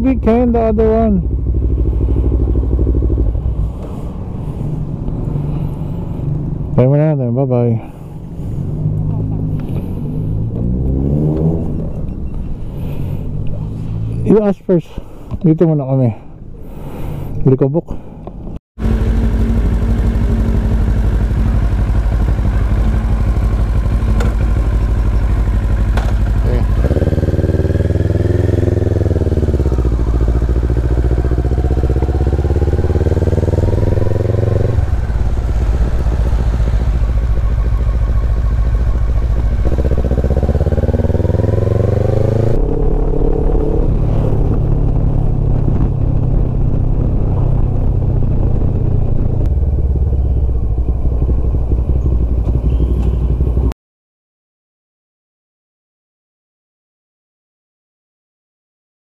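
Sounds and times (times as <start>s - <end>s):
motorcycle engine accelerating: 0.0s - 7.1s, 7.8s - 14.3s, 18.8s - 53.8s.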